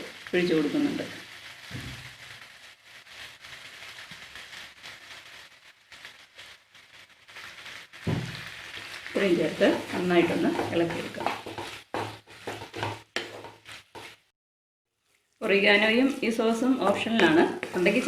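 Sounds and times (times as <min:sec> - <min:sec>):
chicken sizzling in a pan: 0:00.0 - 0:14.3, 0:15.0 - 0:18.0.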